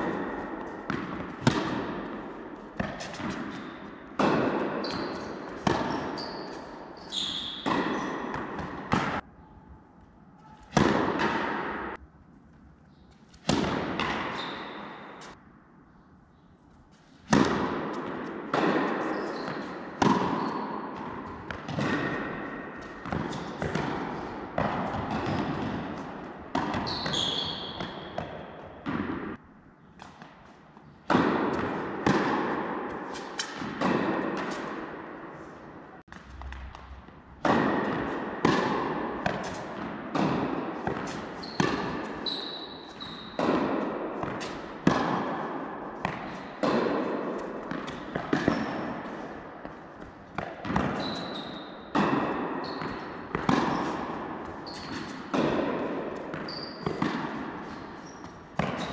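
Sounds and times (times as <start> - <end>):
tennis ball hits echoing: 0.0 - 9.3, 10.4 - 12.0, 13.4 - 15.4, 17.2 - 29.4, 31.0 - 58.9.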